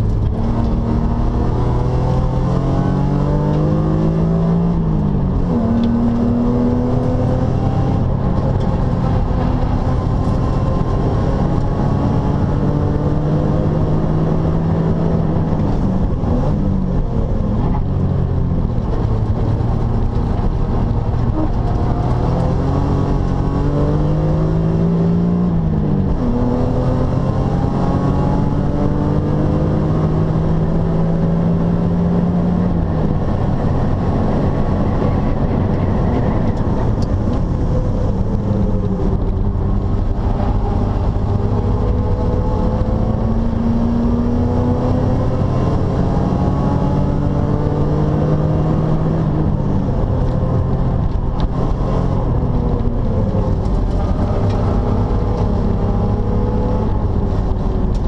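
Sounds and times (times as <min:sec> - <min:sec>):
car engine at full throttle: 0:00.0 - 0:58.0
road and tyre noise: 0:00.0 - 0:58.0.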